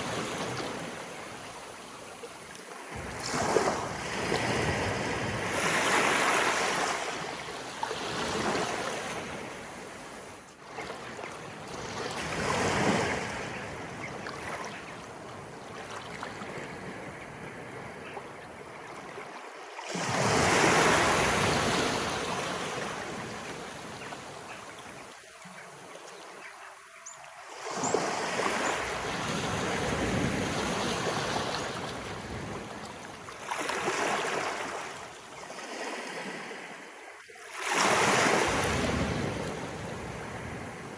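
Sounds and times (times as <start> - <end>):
waves washing up the shore: 0.0 - 26.4, 27.4 - 40.9.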